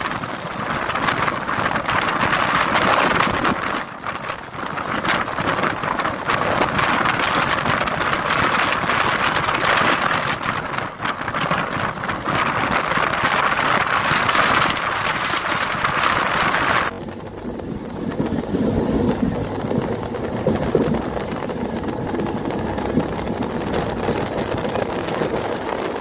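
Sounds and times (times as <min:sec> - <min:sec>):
train wheels on rails: 0:00.0 - 0:26.0
wind rushing over microphone: 0:00.0 - 0:26.0.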